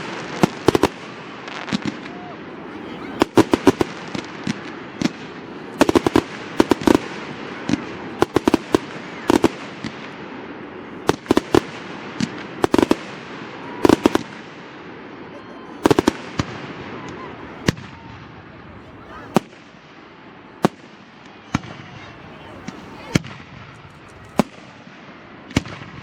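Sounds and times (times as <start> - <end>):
fireworks bursting with sharp bangs: 0.0 - 26.0.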